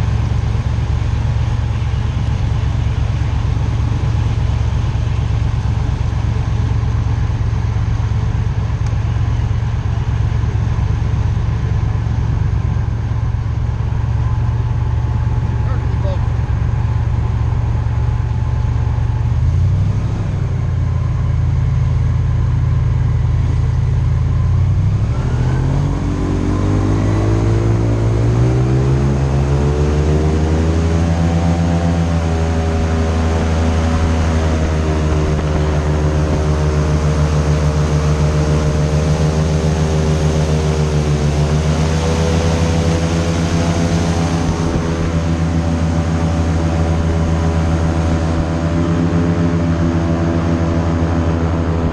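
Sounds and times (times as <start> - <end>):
airboat engine and propeller revving: 0.0 - 51.9.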